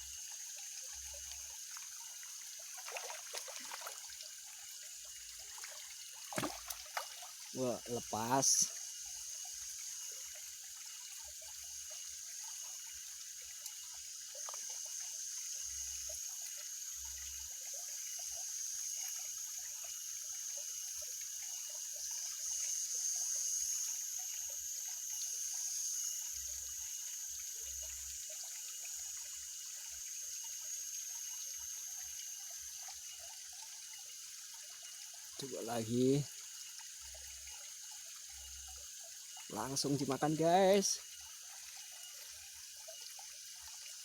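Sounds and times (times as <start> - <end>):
water trickling and dripping: 0.0 - 44.0.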